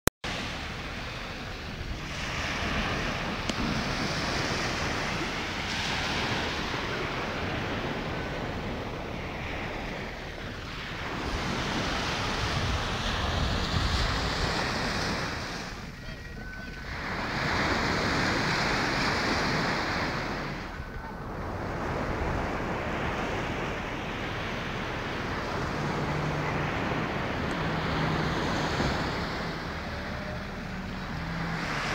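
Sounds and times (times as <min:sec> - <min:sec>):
sea waves breaking: 0:00.2 - 0:31.9
wind buffeting microphone: 0:00.3 - 0:31.9.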